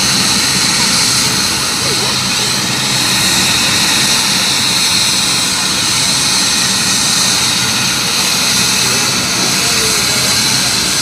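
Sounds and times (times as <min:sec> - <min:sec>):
helicopter turbine and rotor: 0:00.0 - 0:11.0.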